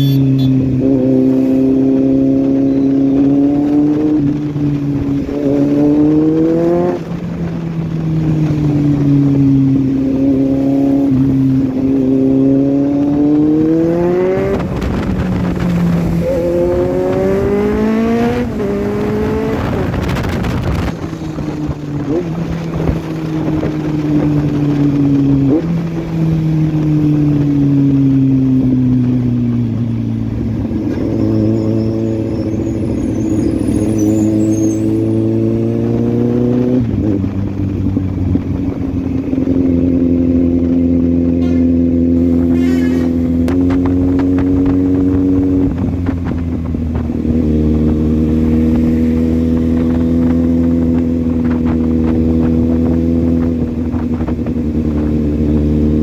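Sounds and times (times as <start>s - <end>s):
motorcycle engine while riding: 0.0s - 56.0s
road noise: 0.0s - 56.0s
wind noise: 0.0s - 56.0s.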